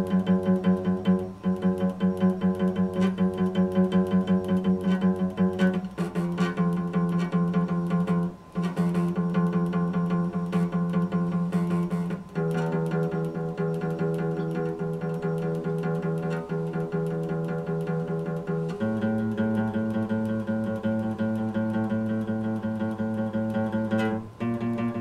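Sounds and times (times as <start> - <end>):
acoustic guitar fingerpicked: 0.0 - 25.0.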